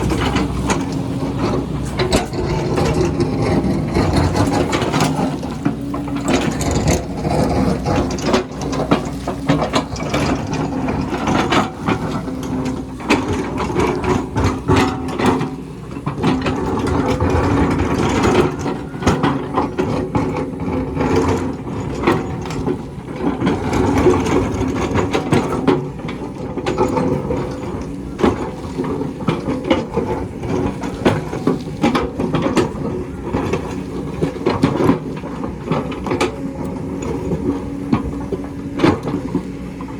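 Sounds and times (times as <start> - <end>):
excavator diesel engine running: 0.0 - 39.9
metallic clanks and knocks: 0.0 - 39.9.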